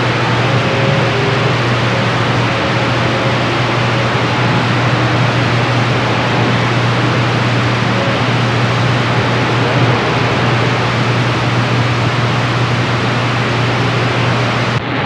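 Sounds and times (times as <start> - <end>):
low hum: 0.0 - 15.0
radio static hiss: 0.0 - 15.0.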